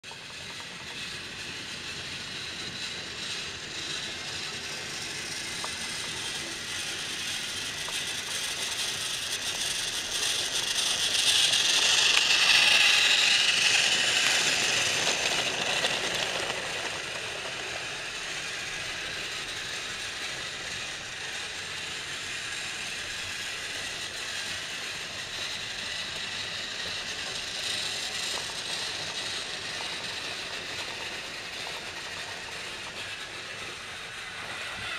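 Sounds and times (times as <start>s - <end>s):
toy trains whirring and rattling: 0.0s - 34.9s.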